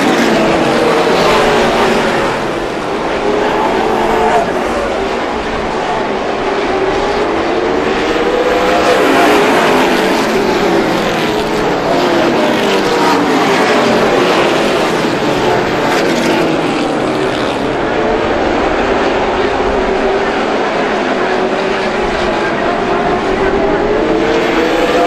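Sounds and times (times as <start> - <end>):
race car engines at speed: 0.0 - 25.0.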